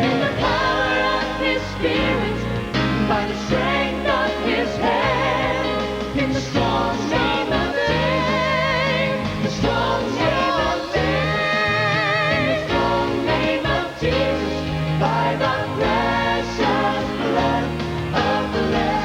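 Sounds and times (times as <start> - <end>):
steady bass line: 0.0 - 19.0
vocal group singing: 0.0 - 19.0.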